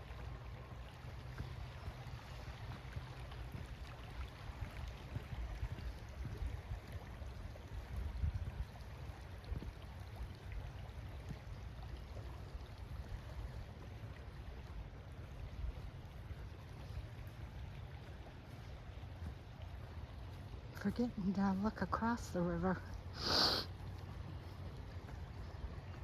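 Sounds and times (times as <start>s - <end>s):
low uneven rumble: 0.0s - 26.0s
river water flowing: 0.0s - 26.0s.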